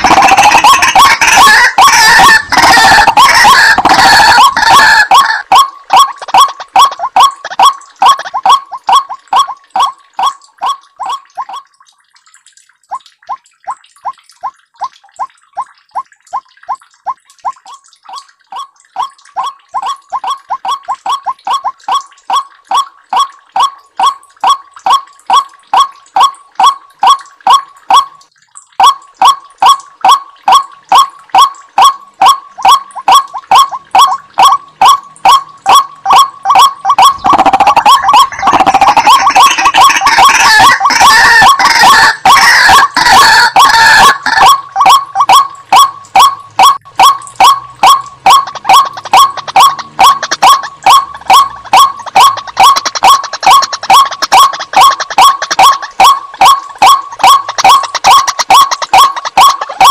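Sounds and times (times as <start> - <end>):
waterhen calling: 0.0 - 59.9.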